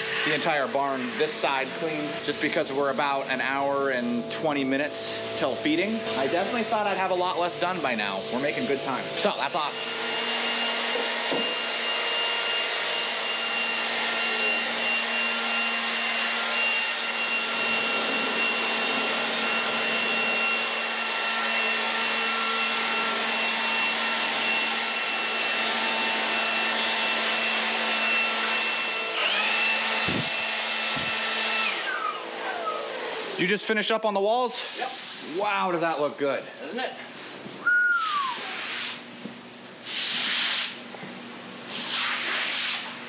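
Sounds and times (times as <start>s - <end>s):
leaf blower whining: 0.0s - 33.5s, 37.6s - 39.2s.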